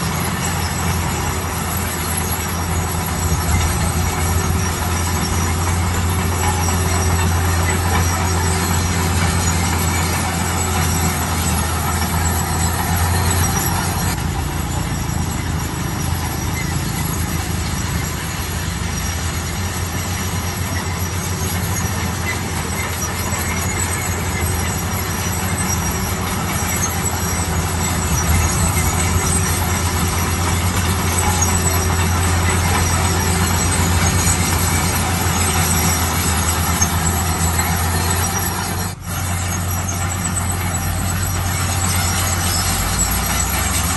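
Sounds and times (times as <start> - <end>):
construction machine engine hum: 0.0 - 43.9
high squeaks: 0.0 - 43.9.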